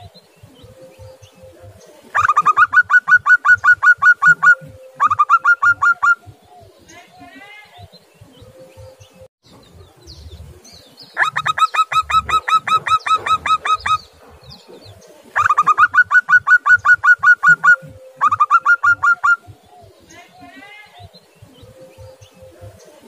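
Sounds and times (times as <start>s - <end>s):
dove calling staccato notes: 0.0s - 23.0s.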